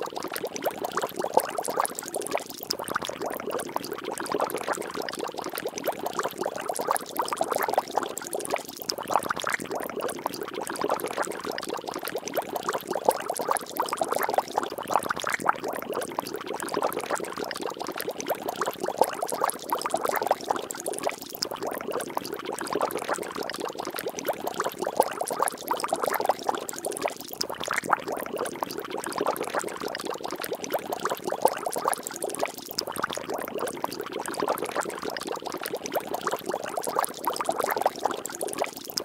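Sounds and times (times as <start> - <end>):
water splashing and bubbling: 0.0 - 39.0.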